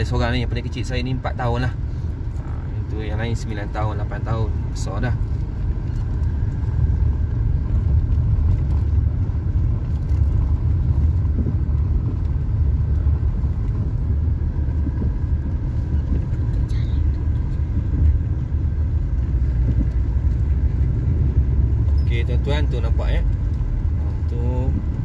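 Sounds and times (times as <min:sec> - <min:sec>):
engine and tyres rumbling in car: 0:00.0 - 0:25.0.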